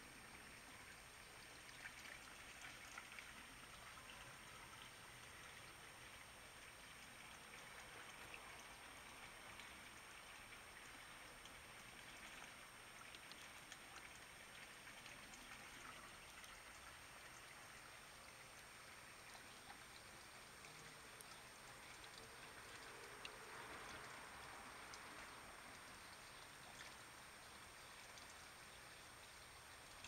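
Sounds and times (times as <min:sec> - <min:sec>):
small water drips: 0:00.0 - 0:30.0
water trickling: 0:00.0 - 0:30.0.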